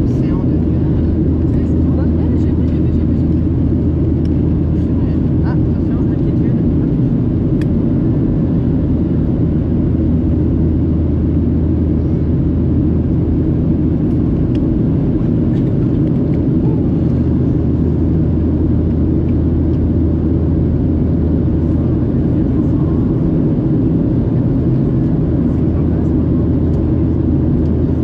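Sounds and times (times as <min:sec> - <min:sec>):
aircraft cabin engine roar: 0:00.0 - 0:28.0
constant hum: 0:00.0 - 0:28.0.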